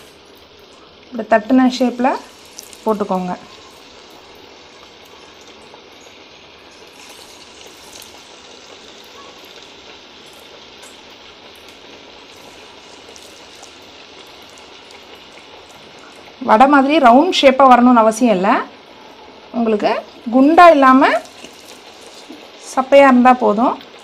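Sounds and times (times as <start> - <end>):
faint crackles: 0.0 - 17.5, 18.7 - 24.0
oil sizzling in a frying pan: 0.0 - 24.0.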